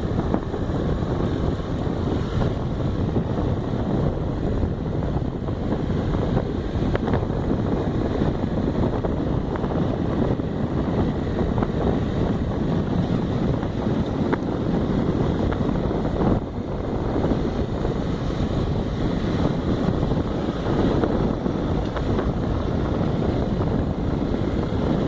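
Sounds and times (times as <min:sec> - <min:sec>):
motorcycle engine running: 0:00.0 - 0:25.0
wind rush over microphone: 0:00.0 - 0:25.0.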